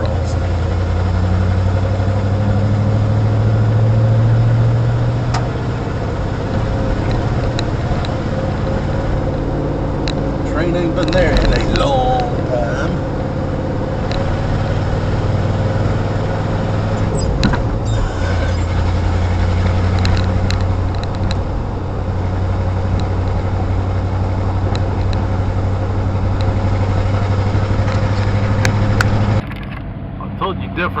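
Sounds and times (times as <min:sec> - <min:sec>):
knocks and rattles on rough road: 0:00.0 - 0:30.5
car engine droning: 0:00.0 - 0:31.0.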